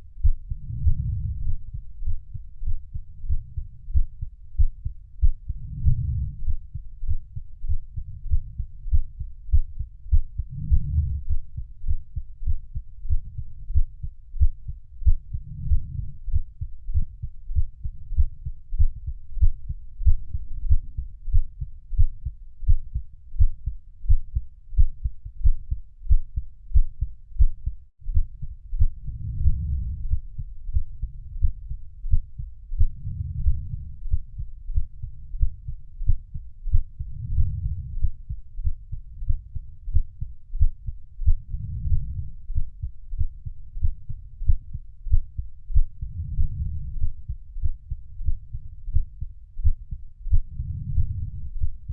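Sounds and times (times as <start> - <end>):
heartbeat thumps: 0.0 - 51.9.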